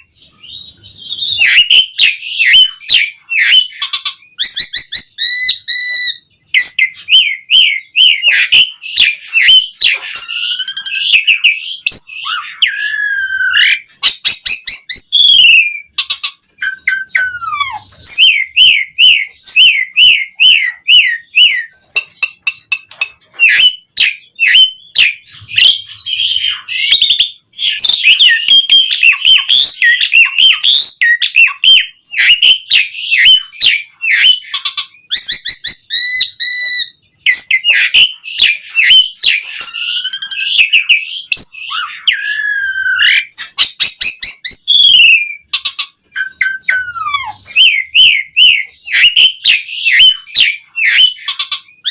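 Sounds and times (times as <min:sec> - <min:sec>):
starling singing whistled song: 0:00.0 - 0:51.9.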